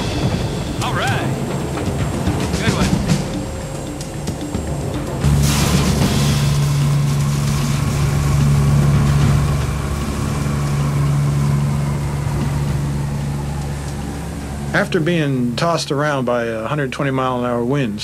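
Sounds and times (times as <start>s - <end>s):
high whine: 0.0s - 17.8s
turboprop engines droning: 0.0s - 18.0s.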